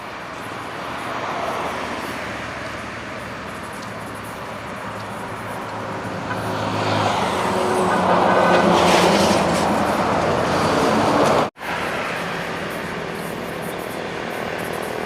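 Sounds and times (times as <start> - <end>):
vehicle passing close by: 0.0 - 15.0.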